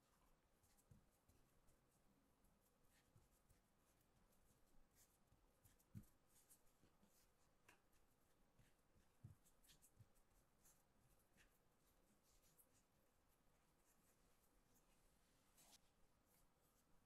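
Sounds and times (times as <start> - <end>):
fingertips tapping and rubbing dough: 0.0 - 15.0.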